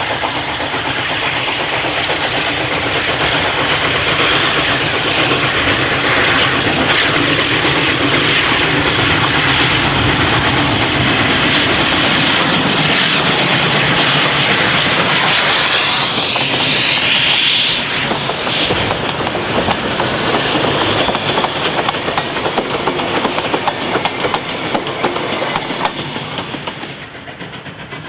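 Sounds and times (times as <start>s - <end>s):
steam locomotive approaching: 0.0s - 28.0s.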